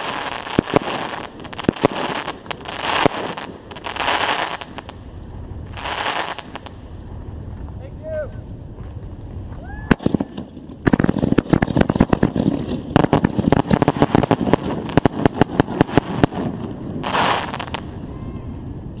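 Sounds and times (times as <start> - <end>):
firework hiss: 0.0 - 7.6, 9.9 - 18.1
fireworks cracking and banging: 0.0 - 8.0, 8.7 - 18.0.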